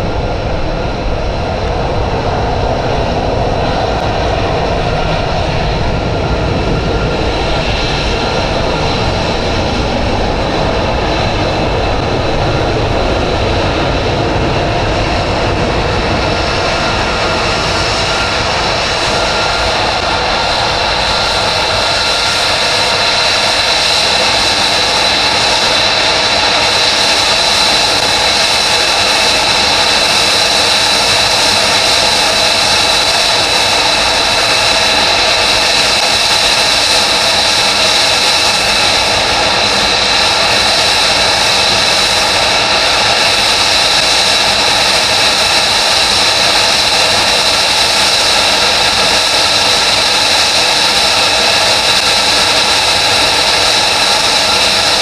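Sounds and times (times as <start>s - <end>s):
jet engine hissing and whining: 0.0s - 55.0s.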